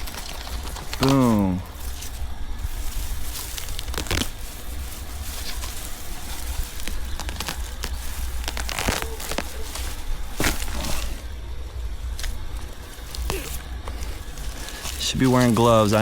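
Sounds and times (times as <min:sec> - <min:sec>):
hands rustling plants and soil: 0:00.0 - 0:16.0
steady low rumble: 0:00.0 - 0:16.0.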